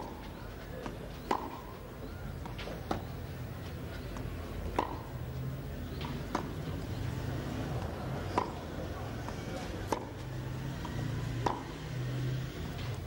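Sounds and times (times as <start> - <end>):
tennis ball hit by racquet: 0.0 - 13.0.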